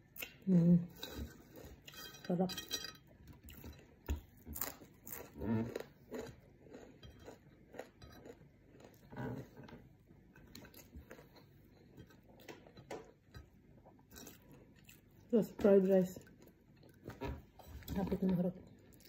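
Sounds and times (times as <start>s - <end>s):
chewing and crunching food: 3.1s - 19.0s.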